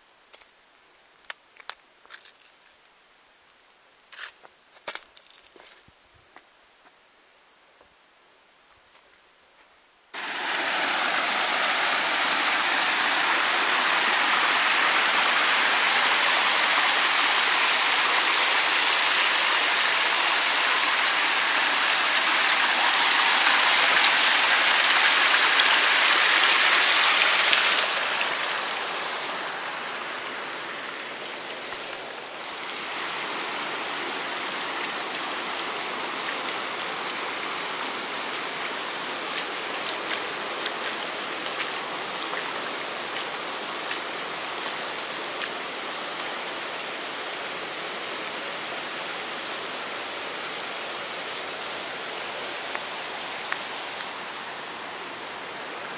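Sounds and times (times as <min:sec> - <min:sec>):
water rushing over rock ledge: 0:10.2 - 0:55.9.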